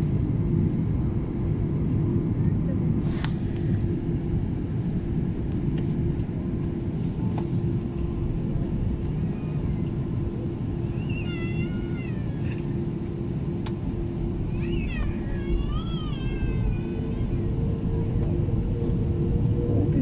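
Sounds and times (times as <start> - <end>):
low rumble of engines and wheels: 0.0 - 20.0.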